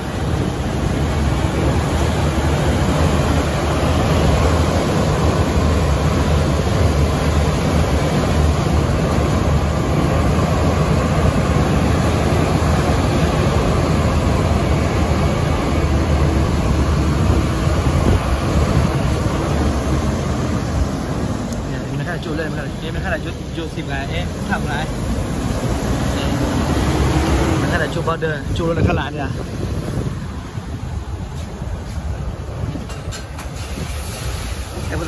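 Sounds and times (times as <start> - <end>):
wind on microphone: 0.0 - 21.6, 28.3 - 35.0.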